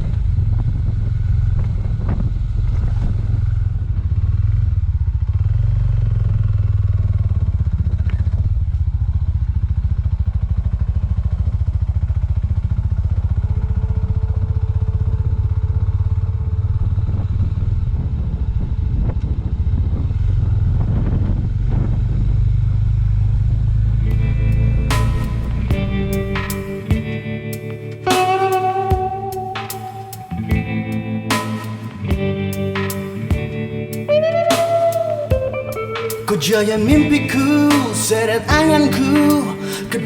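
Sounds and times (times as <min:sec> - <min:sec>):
motorcycle engine running: 0:00.0 - 0:31.4, 0:32.0 - 0:34.4.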